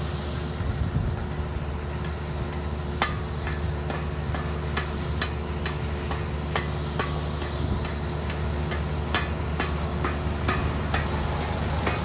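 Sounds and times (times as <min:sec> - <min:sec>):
sweeper running: 0:00.0 - 0:12.0.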